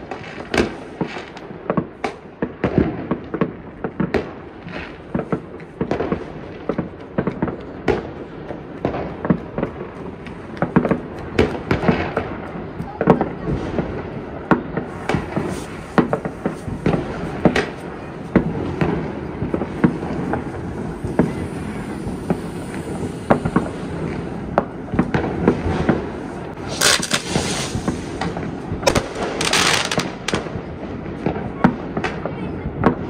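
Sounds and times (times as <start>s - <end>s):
crackling firework bursts: 0.0s - 33.0s
fireworks bangs and pops: 0.0s - 33.0s.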